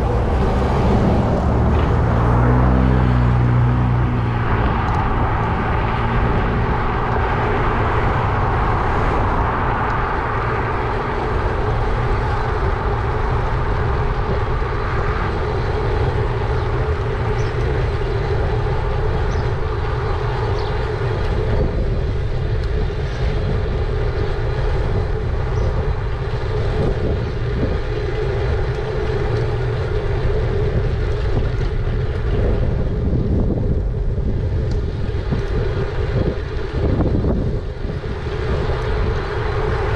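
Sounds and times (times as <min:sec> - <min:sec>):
tyres rolling rumble: 0:00.0 - 0:39.9
wind rushing over microphone: 0:00.0 - 0:39.9.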